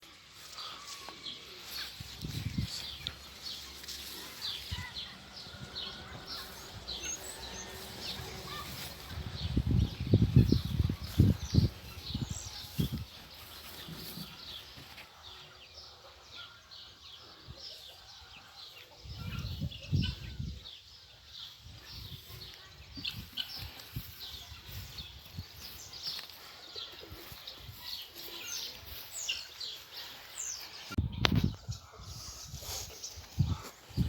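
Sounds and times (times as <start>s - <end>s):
small birds chirping: 0.1s - 34.0s.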